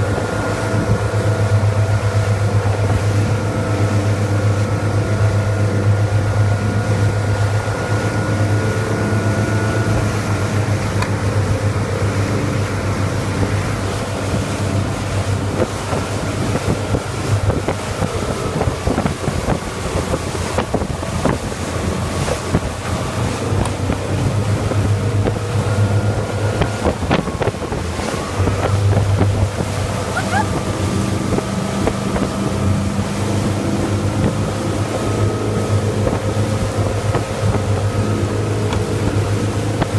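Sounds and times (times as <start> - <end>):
motorboat engine running: 0.0 - 39.9
wake rushing: 0.0 - 39.9
wind buffeting microphone: 0.0 - 39.9.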